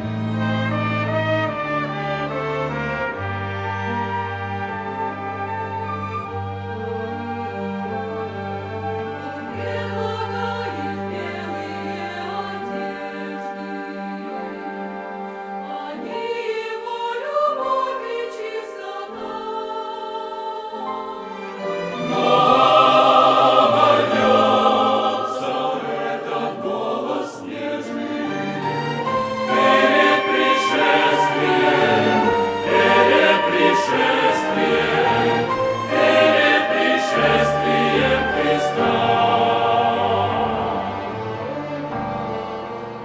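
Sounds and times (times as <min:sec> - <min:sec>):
choir and orchestra performing hymn: 0:00.0 - 0:43.0.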